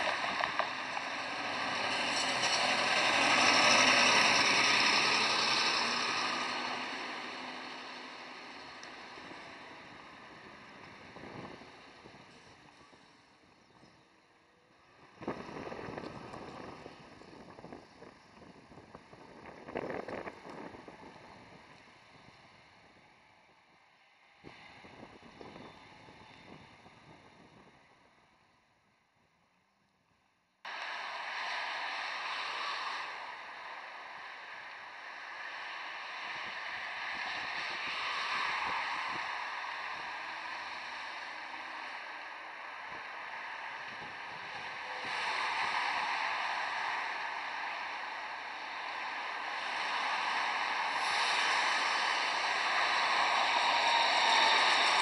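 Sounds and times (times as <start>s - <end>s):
wind on microphone: 0.0s - 14.1s, 14.9s - 23.0s, 24.4s - 28.1s, 30.7s - 55.0s
tram rolling along track: 0.0s - 27.7s, 30.7s - 55.0s.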